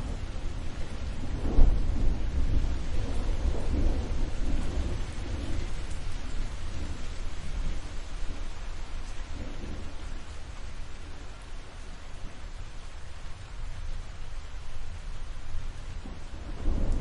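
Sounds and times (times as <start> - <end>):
rolling thunder: 0.0 - 17.0
steady rain: 0.0 - 17.0.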